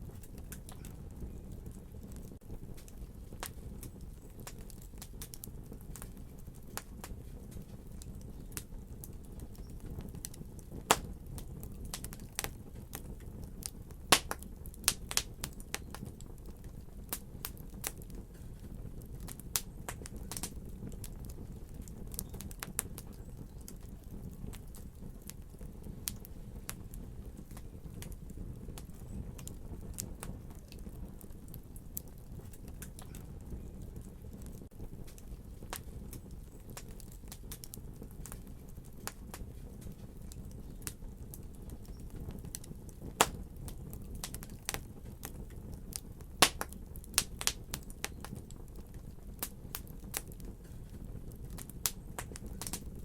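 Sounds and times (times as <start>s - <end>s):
fire hissing: 0.0s - 53.0s
fire popping and snapping: 0.0s - 53.0s.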